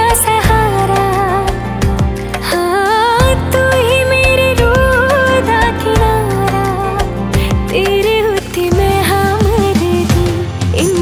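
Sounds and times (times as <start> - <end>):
film-style song: 0.0 - 11.0.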